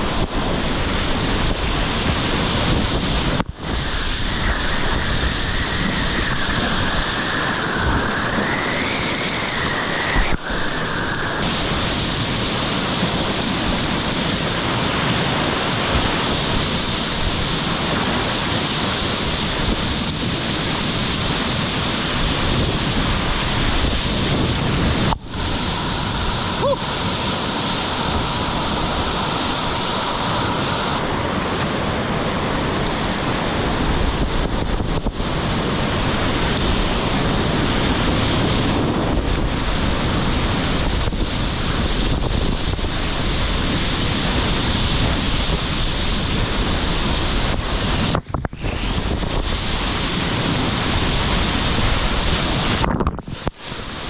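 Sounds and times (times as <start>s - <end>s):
whitewater rushing: 0.0s - 54.0s
wind buffeting microphone: 0.0s - 54.0s.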